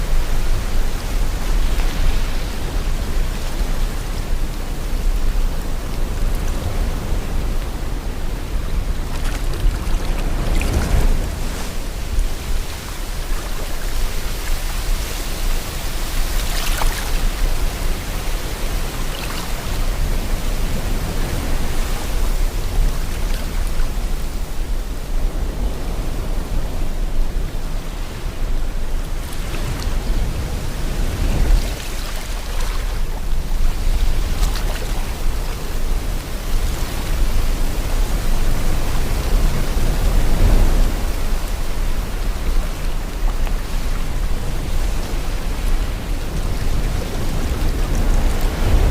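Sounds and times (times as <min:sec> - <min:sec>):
wind blowing: 0:00.0 - 0:48.9.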